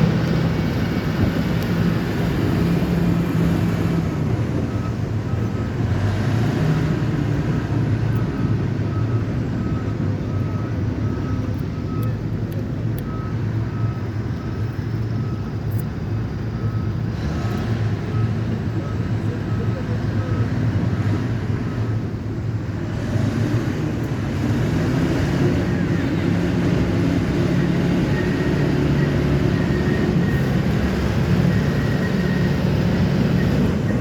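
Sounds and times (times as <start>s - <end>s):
diesel engine running: 0.0s - 34.0s
reversing alarm beeps: 3.8s - 22.0s, 24.8s - 34.0s.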